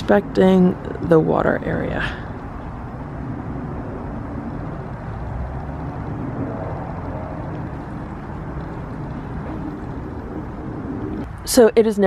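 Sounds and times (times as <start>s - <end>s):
low outdoor background rumble: 0.0s - 12.0s.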